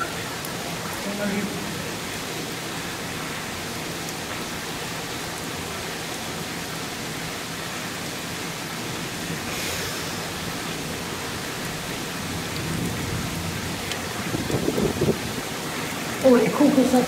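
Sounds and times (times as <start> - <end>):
heavy rain downpour: 0.0 - 17.0.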